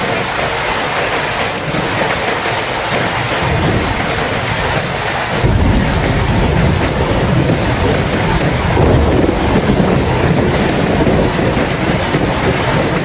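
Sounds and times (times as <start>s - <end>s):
heavy rain: 0.0s - 13.0s
low rolling thunder: 1.6s - 13.0s.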